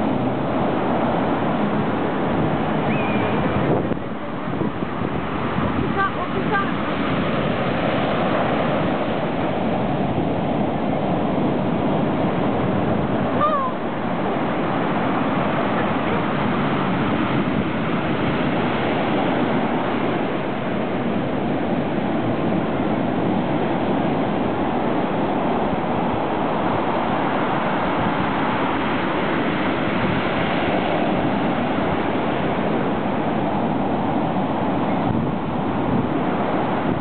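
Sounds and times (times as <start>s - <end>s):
heavy surf breaking: 0.0s - 37.0s.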